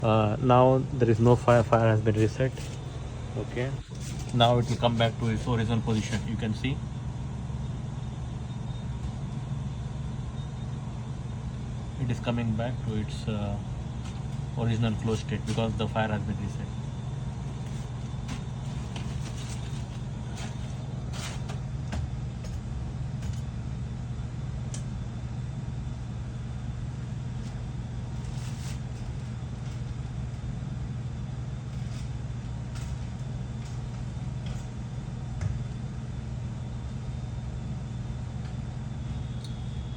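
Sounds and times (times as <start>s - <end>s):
hvac equipment humming: 0.0s - 39.9s.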